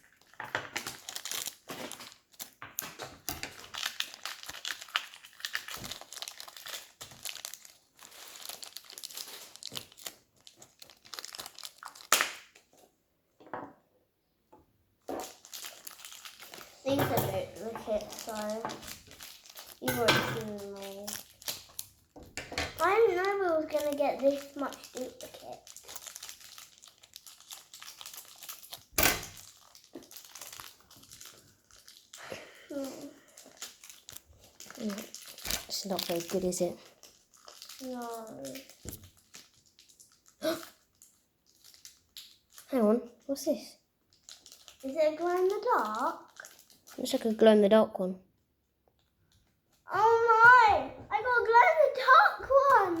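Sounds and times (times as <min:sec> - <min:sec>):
plastic packaging crinkling: 0:00.0 - 0:12.9, 0:15.0 - 0:47.6.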